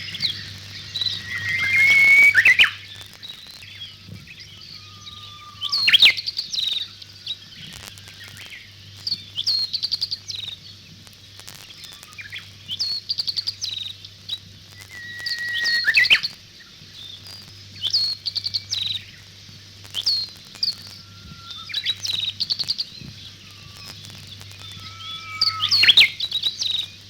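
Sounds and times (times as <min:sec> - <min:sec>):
songbirds singing: 0:00.0 - 0:27.0.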